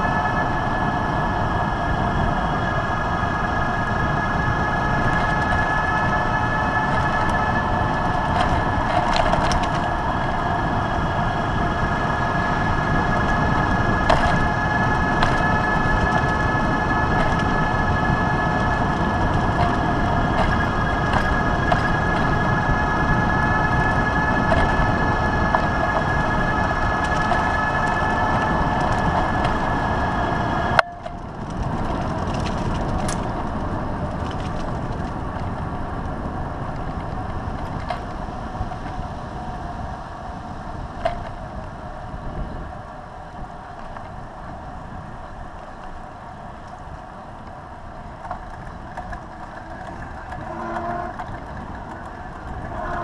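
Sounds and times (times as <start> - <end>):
electric motor whine: 0.0 - 39.0, 48.3 - 53.0
wheels rolling rumble: 0.0 - 53.0.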